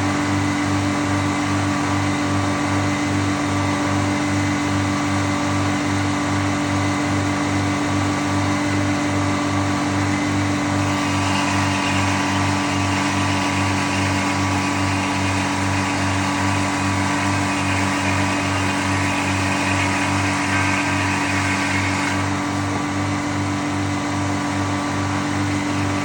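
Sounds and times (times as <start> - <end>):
sawmill running with low throb: 0.0 - 26.0.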